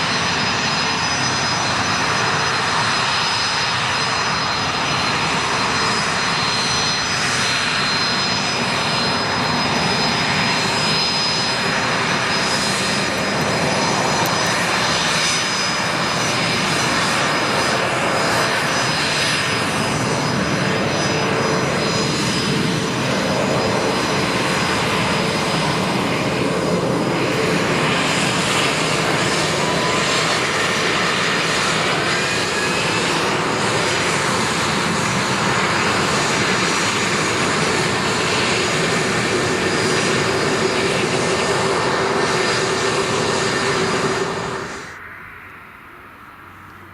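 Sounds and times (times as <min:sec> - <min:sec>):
jet engines whining: 0:00.0 - 0:46.9.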